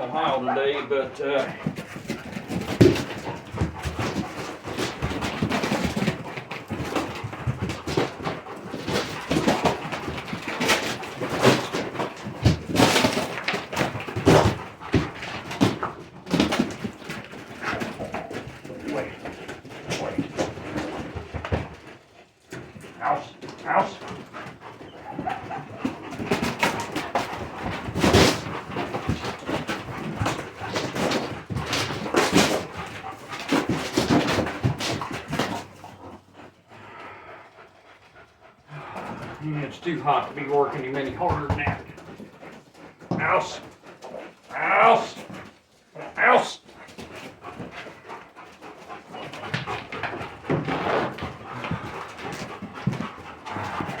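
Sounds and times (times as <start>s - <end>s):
dog panting: 0.0s - 54.0s.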